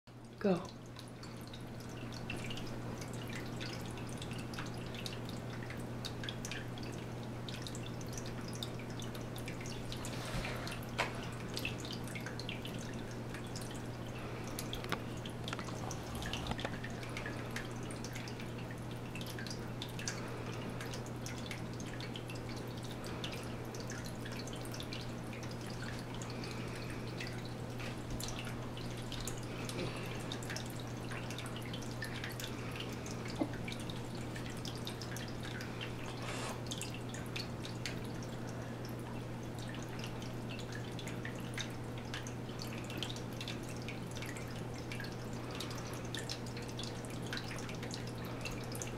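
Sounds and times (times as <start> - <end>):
water dripping: 0.1 - 48.9.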